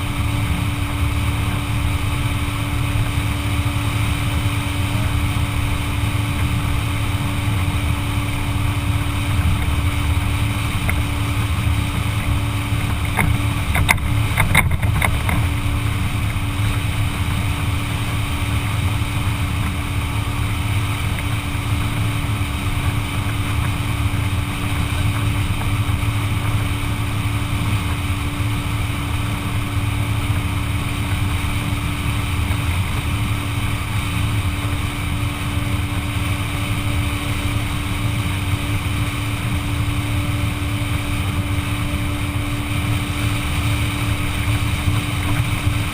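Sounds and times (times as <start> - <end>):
motorboat engine droning: 0.0 - 45.9
water rushing: 0.0 - 45.9.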